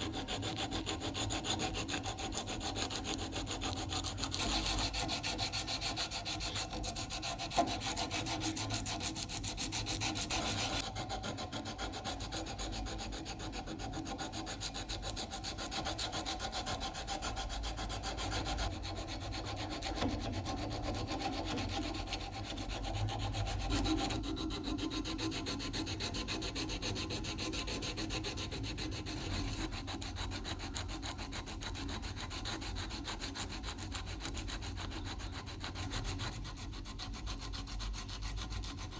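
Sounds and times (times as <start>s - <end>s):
hand filing or sanding strokes: 0.0s - 38.9s.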